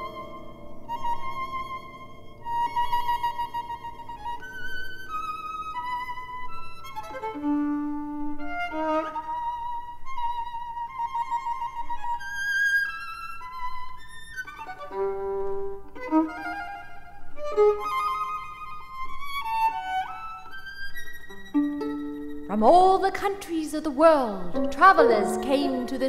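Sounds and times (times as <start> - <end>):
violin playing: 0.0 - 26.0.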